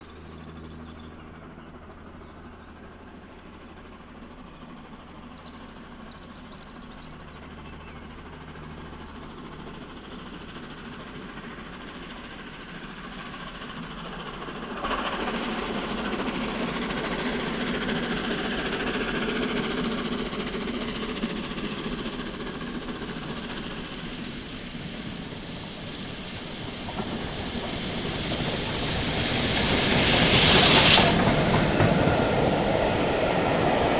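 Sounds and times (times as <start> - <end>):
steam train approaching: 0.1 - 33.9.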